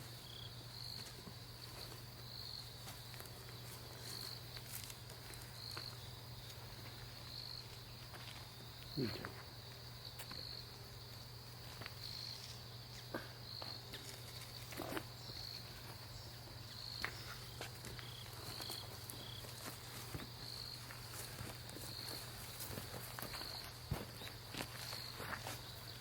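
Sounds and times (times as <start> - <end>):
crickets trilling: 0.0 - 26.0
footsteps: 0.8 - 26.0.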